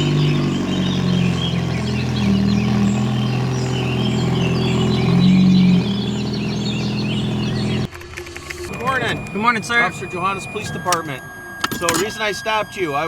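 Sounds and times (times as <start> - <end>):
birds chirping: 0.0 - 7.9, 8.6 - 13.0
car engine running: 0.0 - 7.9, 8.5 - 13.0.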